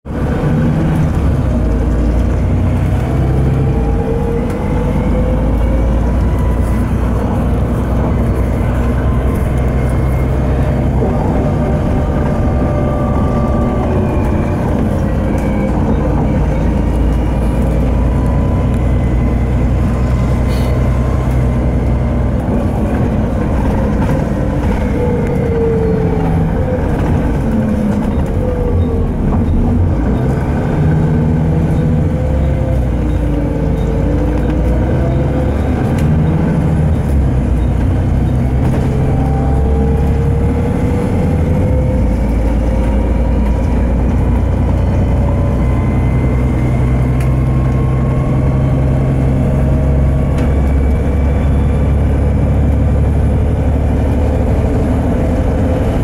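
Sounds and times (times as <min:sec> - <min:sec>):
bus diesel engine hum: 0:00.0 - 0:56.0.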